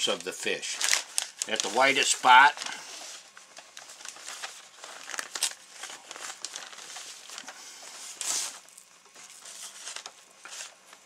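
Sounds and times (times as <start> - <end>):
newspaper crinkling: 0.0 - 11.0.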